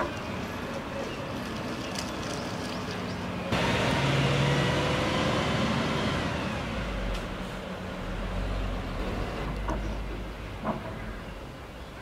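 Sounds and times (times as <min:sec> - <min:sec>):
bus engine running: 0:00.1 - 0:11.0.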